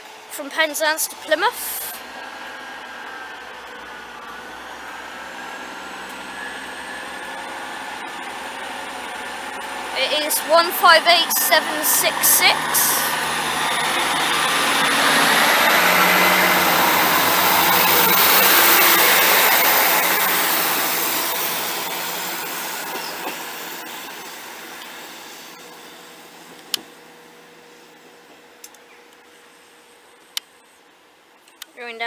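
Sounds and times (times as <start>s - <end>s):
diesel train pulling away: 0.0s - 26.7s
rising whine: 1.2s - 27.2s.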